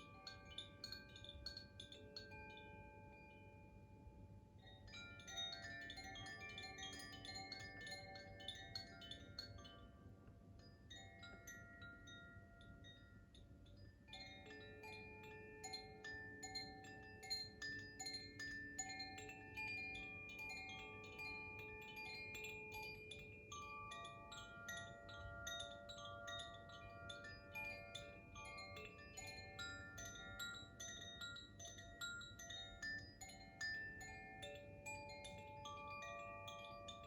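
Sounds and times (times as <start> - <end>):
wind chime ringing: 0.0 - 3.9, 4.6 - 37.0.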